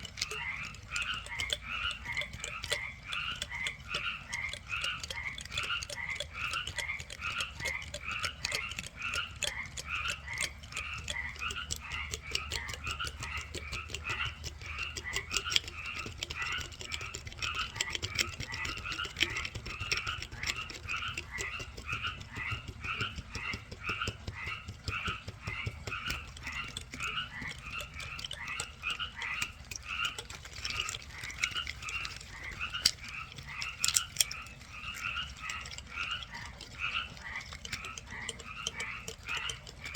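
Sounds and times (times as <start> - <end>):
sharp ticks: 0.0 - 39.9
small animals calling: 0.0 - 39.9.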